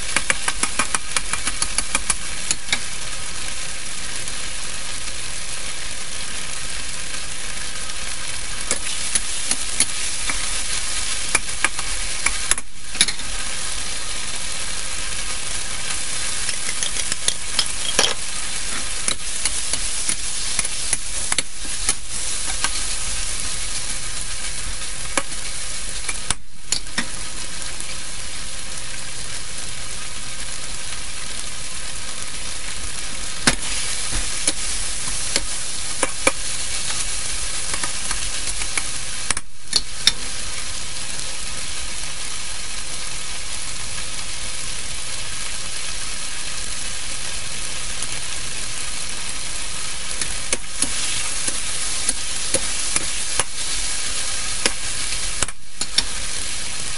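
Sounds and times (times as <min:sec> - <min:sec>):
food sizzling in a wok: 0:00.0 - 0:56.9.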